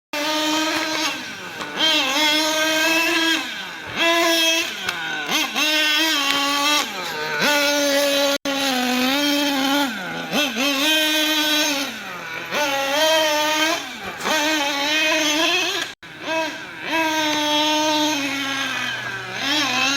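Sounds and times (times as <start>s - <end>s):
engine revving: 0.2s - 19.9s.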